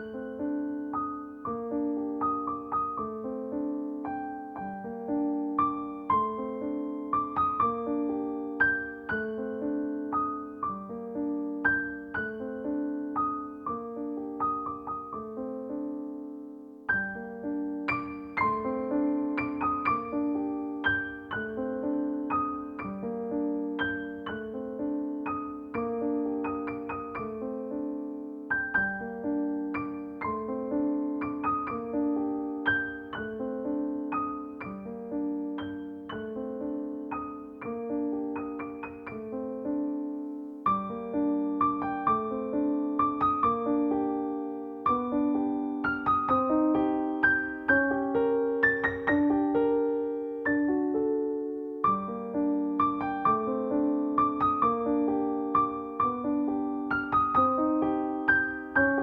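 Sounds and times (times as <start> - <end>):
soft piano music: 0.0 - 59.0.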